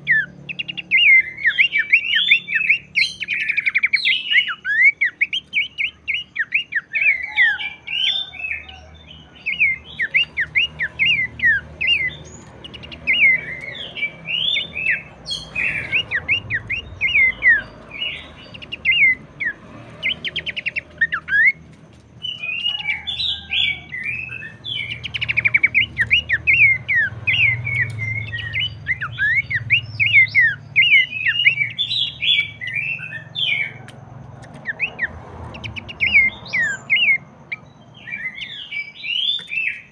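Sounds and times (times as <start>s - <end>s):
bird singing fast chirps: 0.0s - 39.9s.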